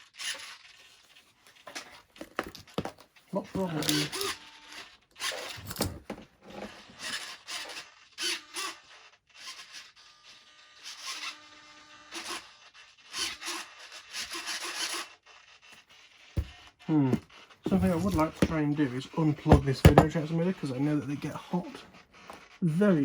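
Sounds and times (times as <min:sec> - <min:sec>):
rubbing and scraping foam parts: 0:00.0 - 0:11.5, 0:12.2 - 0:23.0.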